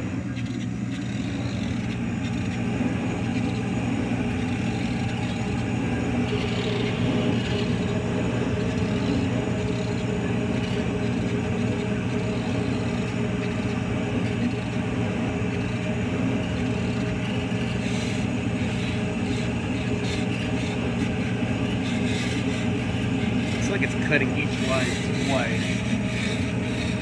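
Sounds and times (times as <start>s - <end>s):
laser cutter humming: 0.0s - 27.0s.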